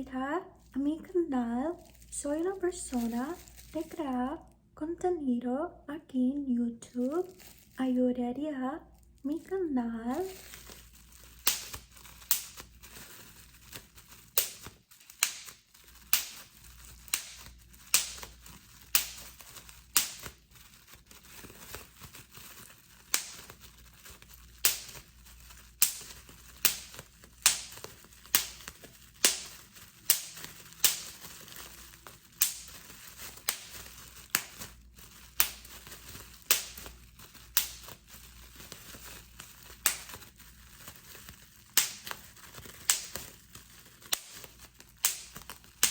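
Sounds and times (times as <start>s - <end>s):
bubble wrap popping: 0.0s - 4.7s, 6.7s - 45.9s
plastic crinkling: 0.0s - 4.7s, 6.7s - 45.9s.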